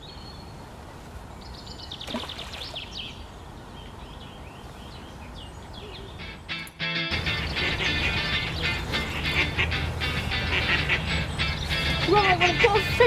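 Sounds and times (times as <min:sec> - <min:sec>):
outdoor background hiss: 0:00.0 - 0:13.0
small birds chirping and twittering: 0:00.0 - 0:13.0.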